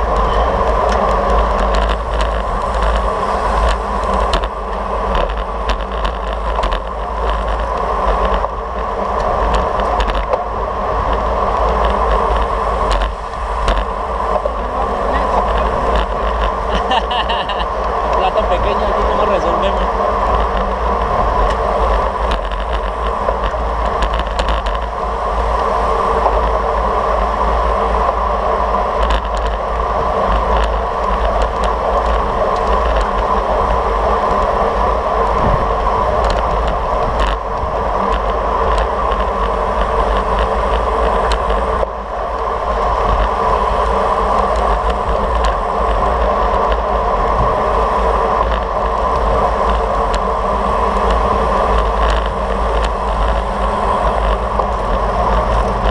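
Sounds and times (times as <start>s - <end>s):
road noise: 0.0s - 55.9s
wind rush on microphone: 0.0s - 55.9s.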